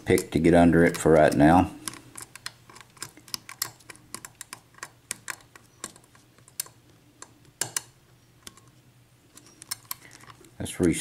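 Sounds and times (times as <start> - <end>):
lock-picking tools clicking: 0.0 - 8.7, 9.3 - 11.0.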